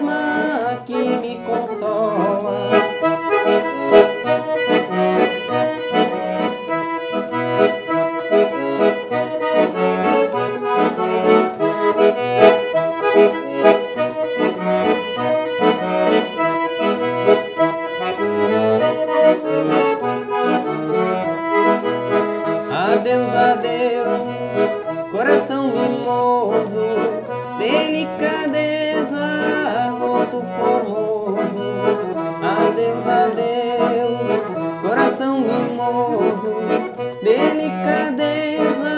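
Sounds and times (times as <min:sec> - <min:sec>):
piano accordion melody: 0:00.0 - 0:38.9.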